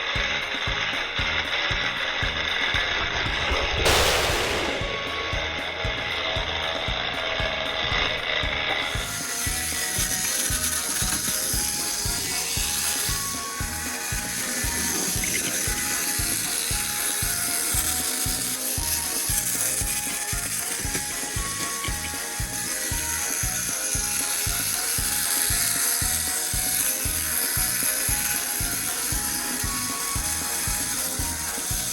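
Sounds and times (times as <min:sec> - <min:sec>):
toy motor ticking and whirring: 0:00.0 - 0:03.8, 0:04.9 - 0:31.9.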